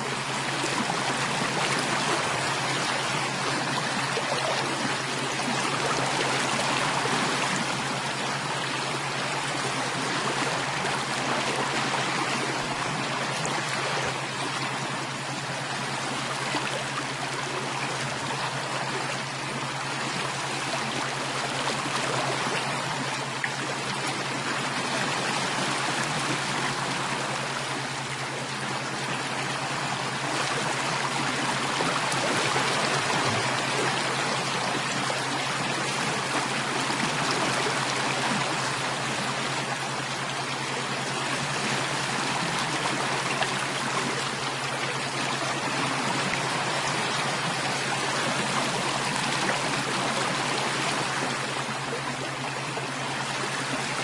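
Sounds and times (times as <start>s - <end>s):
steady low hum: 0.0s - 54.0s
stream water flowing: 0.0s - 54.0s.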